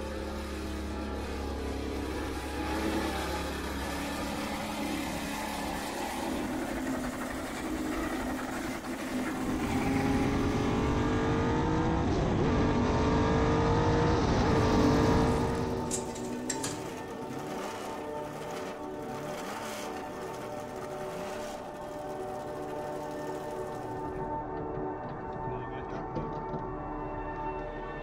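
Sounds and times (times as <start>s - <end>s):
racing car engine revving: 0.0s - 24.2s.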